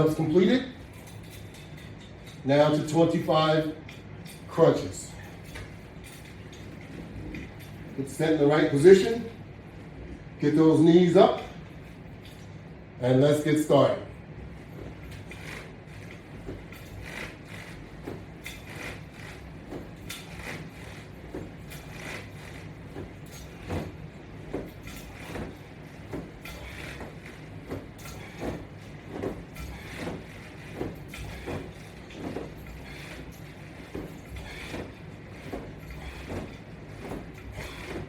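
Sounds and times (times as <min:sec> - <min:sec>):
straps rustling and creaking: 0:00.0 - 0:09.9, 0:13.7 - 0:38.0.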